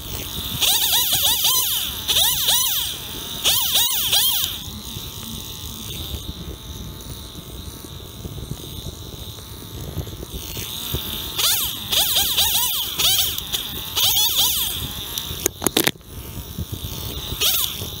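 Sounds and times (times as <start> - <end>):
small chainsaw revving: 0.0 - 18.0.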